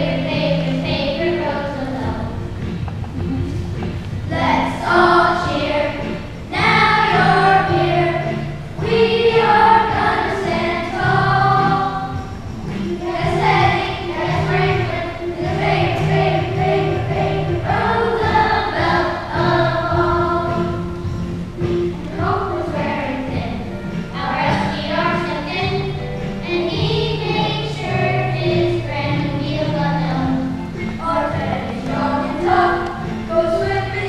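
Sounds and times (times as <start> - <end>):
musical accompaniment with bass: 0.0 - 34.0
children singing: 3.1 - 34.0.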